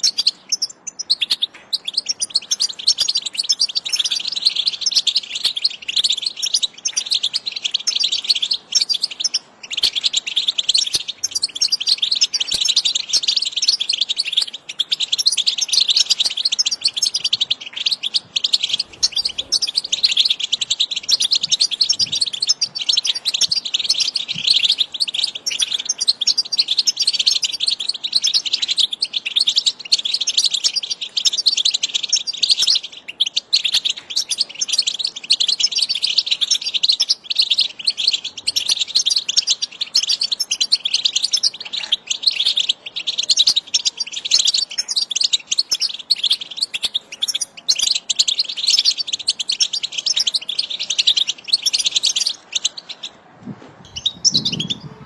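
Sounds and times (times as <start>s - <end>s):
goldfinches twittering: 0.0s - 53.1s, 53.9s - 55.0s.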